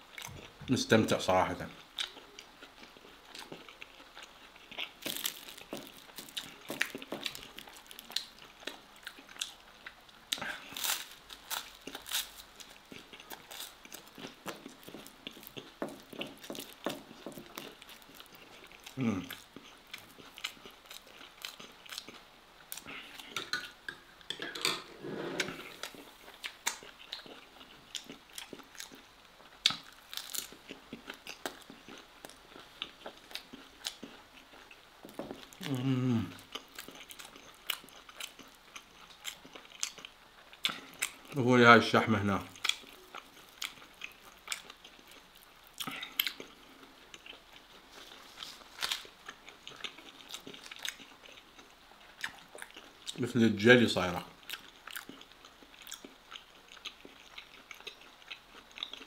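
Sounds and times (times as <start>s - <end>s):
man chewing food: 0.0s - 0.7s, 1.8s - 41.4s, 42.4s - 53.2s, 54.3s - 59.0s.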